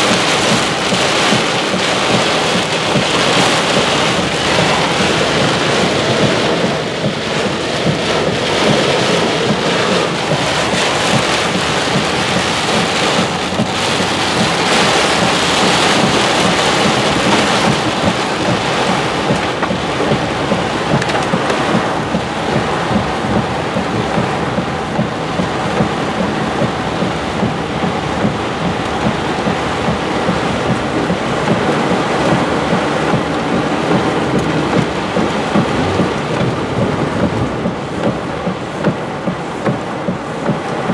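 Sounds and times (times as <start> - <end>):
heavy rain on vehicle roof: 0.0 - 40.9.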